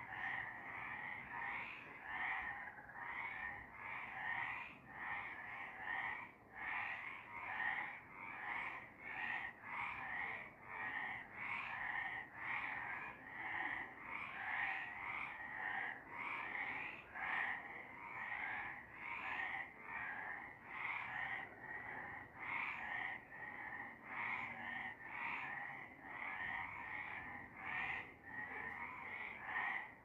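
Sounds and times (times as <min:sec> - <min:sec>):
frogs croaking: 0:00.0 - 0:30.0.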